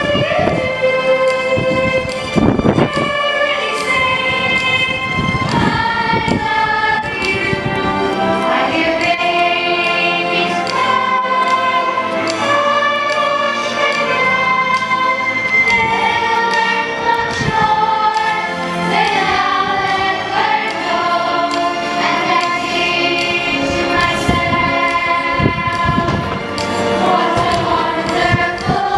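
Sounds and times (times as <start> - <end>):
choir singing: 0.0 - 28.9
musical accompaniment: 0.0 - 28.9.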